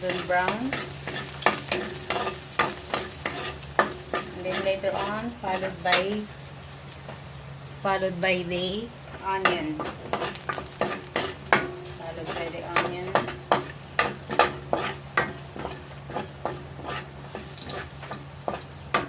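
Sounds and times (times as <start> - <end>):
utensil scraping and tapping wok: 0.0 - 7.2, 9.1 - 19.0
garlic sizzling in oil: 0.0 - 19.0.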